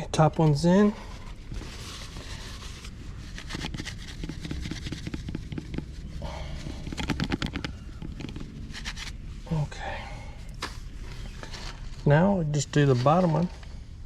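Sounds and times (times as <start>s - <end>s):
handling rustle: 0.1s - 9.8s, 10.4s - 13.8s.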